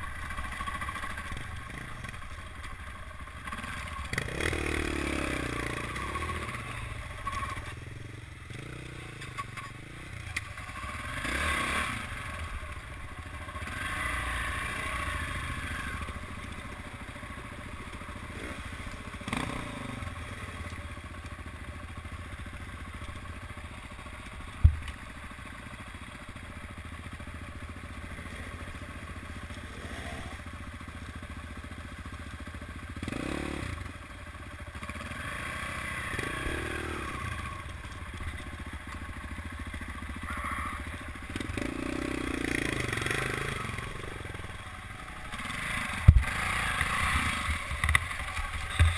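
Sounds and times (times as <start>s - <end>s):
dirt bike engines revving: 0.0s - 21.4s, 22.2s - 31.7s, 32.4s - 48.9s.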